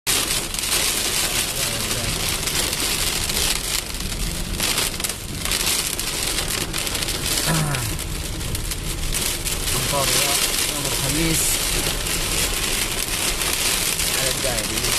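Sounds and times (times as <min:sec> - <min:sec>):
rain falling: 0:00.1 - 0:14.9.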